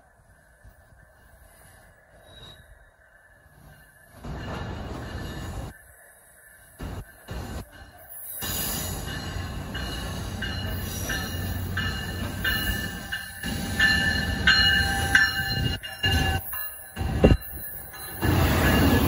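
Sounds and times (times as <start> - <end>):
train rolling rumble: 0.0 - 19.0
metallic brake squeals: 1.2 - 5.7, 7.4 - 19.0.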